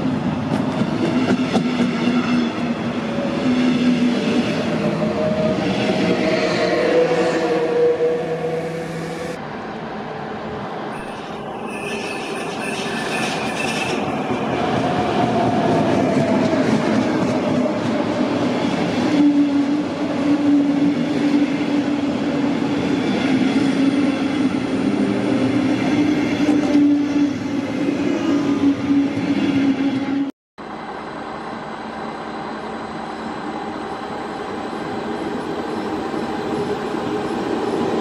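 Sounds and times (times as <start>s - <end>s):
train wheels rumbling on rails: 0.0s - 10.0s, 10.9s - 38.0s.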